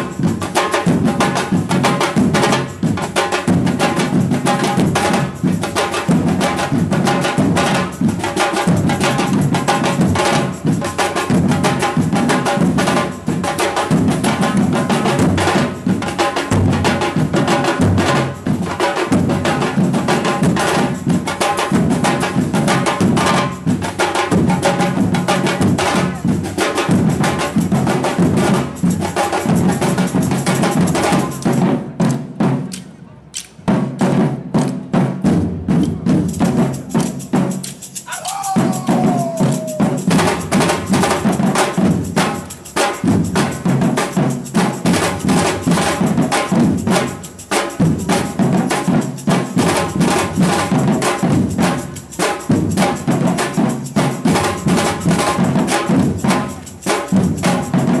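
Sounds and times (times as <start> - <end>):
samba percussion band: 0.0 - 33.0, 33.6 - 58.0.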